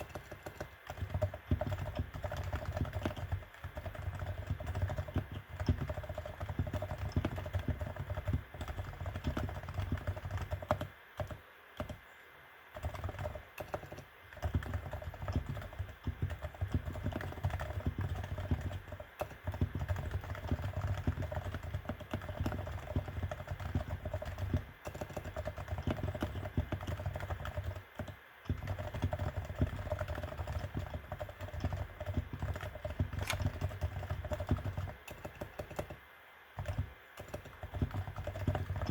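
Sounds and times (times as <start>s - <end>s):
fast keyboard typing: 0.0s - 12.0s, 12.7s - 36.0s, 36.6s - 38.9s.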